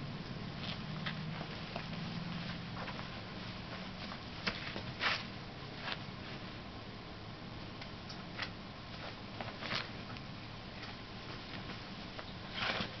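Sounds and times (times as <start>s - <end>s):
steady background hiss: 0.0s - 13.0s
kitten paws tapping and scuffing: 0.5s - 6.6s, 8.2s - 13.0s.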